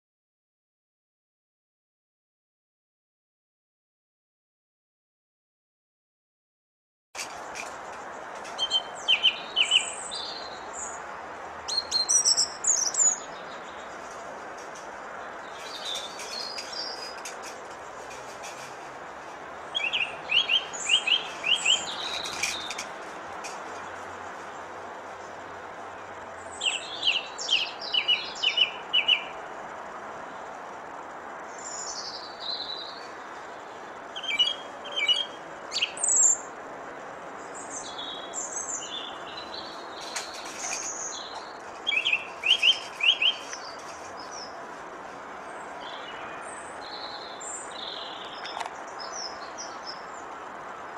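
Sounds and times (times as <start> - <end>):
faint outdoor background: 7.2 - 50.9.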